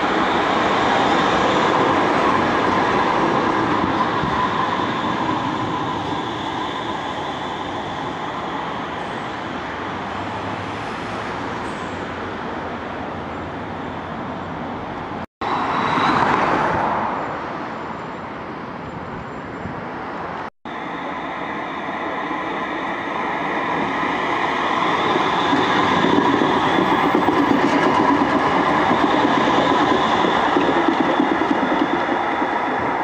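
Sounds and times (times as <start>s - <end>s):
tram wheels rumbling on rails: 0.0s - 33.0s.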